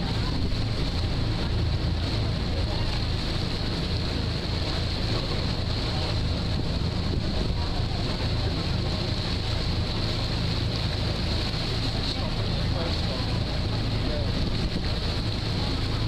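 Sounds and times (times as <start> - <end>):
ferry engine droning: 0.0 - 16.0
wake water churning: 0.0 - 16.0
wind buffeting microphone: 0.0 - 16.0.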